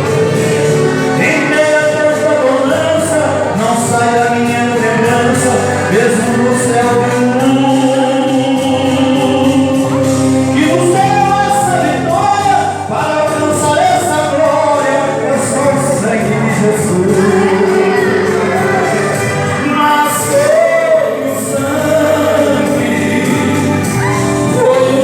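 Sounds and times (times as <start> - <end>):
voices singing together: 0.0 - 25.0
worship band playing: 0.0 - 25.0.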